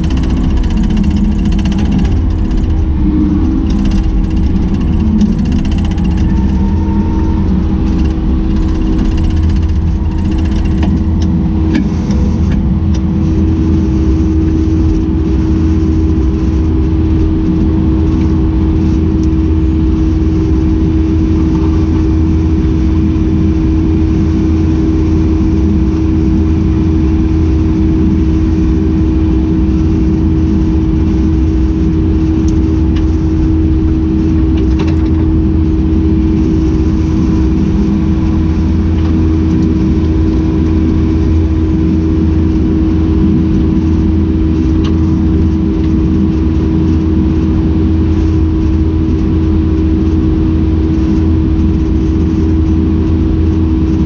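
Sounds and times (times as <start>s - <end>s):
constant droning tone: 0.0s - 54.0s
diesel engine running: 0.0s - 54.0s.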